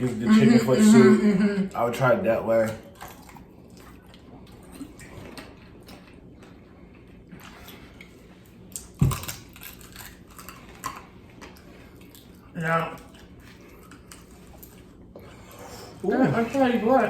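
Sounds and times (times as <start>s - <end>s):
crunchy chewing of bony food: 2.6s - 16.8s.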